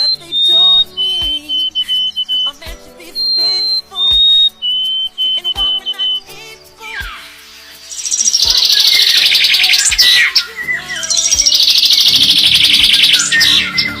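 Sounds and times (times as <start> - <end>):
songbird high-pitched trills: 0.0 - 14.0.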